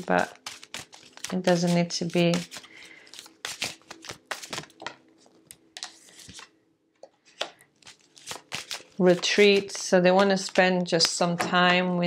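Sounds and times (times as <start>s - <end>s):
cards clicking and sliding: 0.4s - 6.5s, 7.2s - 11.3s.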